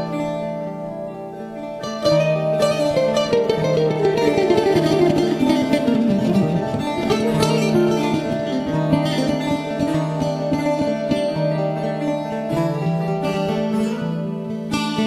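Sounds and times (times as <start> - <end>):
bouzoukis playing: 0.6 - 15.0.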